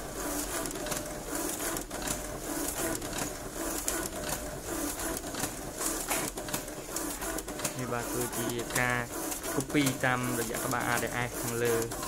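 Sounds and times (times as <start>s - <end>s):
copier feeding and printing: 0.0s - 12.0s.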